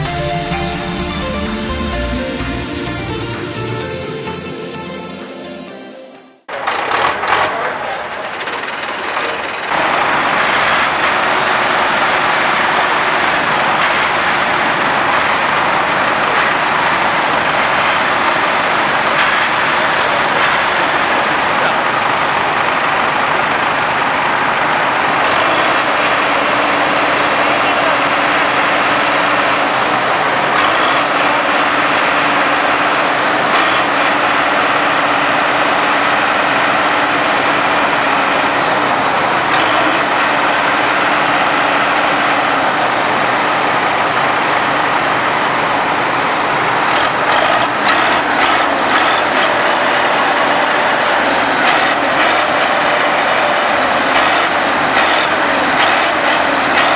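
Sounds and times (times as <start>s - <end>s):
farm machinery engines running: 0.0s - 5.2s, 6.5s - 56.9s.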